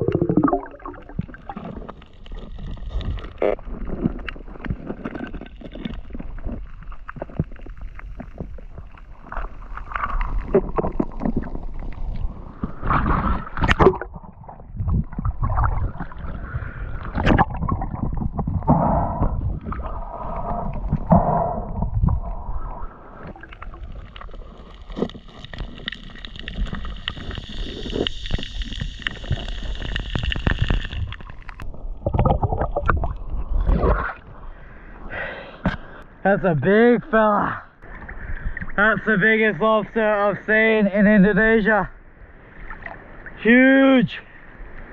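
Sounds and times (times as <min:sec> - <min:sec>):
water sloshing and gurgling: 0:00.0 - 0:35.1, 0:37.7 - 0:39.2, 0:42.0 - 0:43.5.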